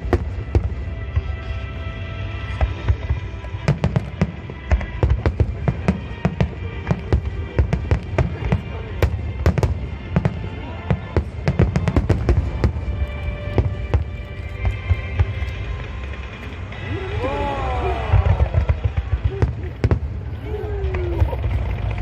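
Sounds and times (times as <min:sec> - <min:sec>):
fireworks bangs and crackles: 0:00.0 - 0:22.0
music in background: 0:00.0 - 0:22.0.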